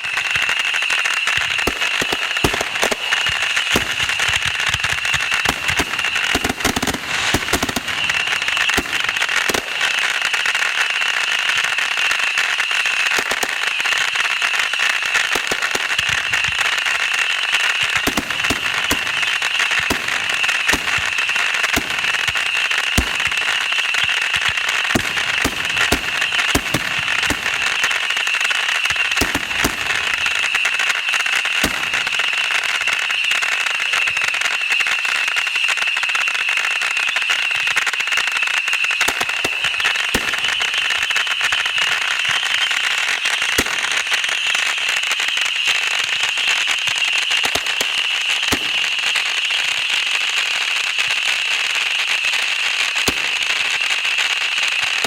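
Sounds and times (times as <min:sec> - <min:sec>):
fireworks bangs: 0:00.0 - 0:55.0
fireworks crackling and popping: 0:00.0 - 0:55.0.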